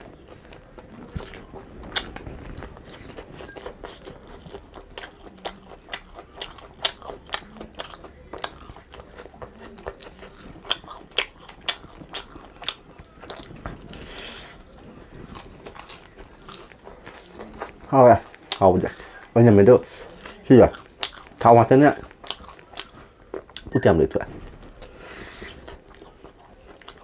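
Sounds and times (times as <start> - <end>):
person crunching food: 0.0 - 27.0.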